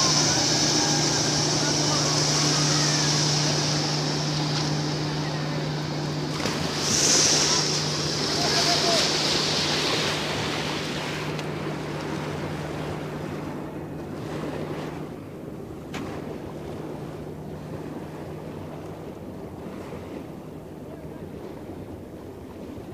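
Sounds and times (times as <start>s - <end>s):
faint engine hum: 0.0s - 22.9s
water rushing along boat hull: 0.0s - 22.9s.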